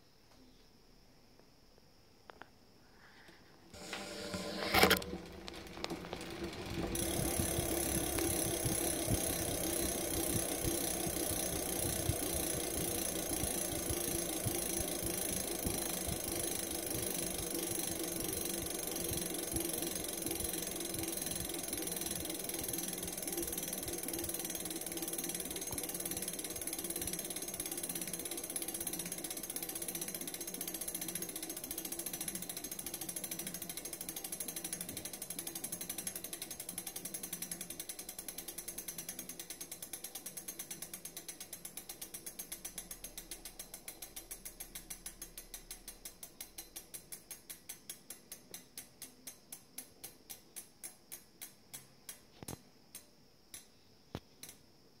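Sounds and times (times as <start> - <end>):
bicycle hub ratcheting: 3.8 - 52.3.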